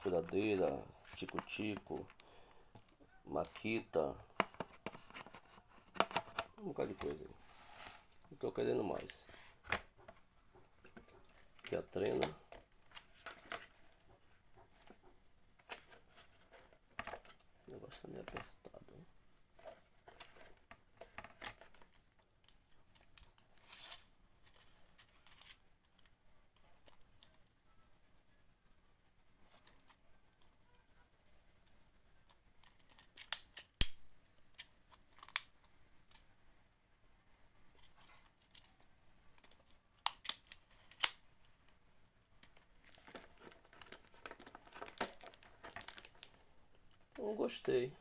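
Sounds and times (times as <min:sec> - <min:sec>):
rustling: 0:00.0 - 0:27.4, 0:29.1 - 0:48.0.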